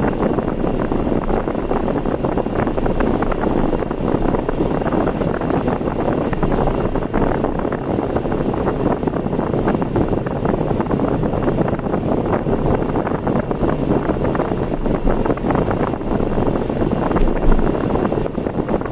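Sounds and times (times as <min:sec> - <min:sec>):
car road noise: 0:00.0 - 0:18.9.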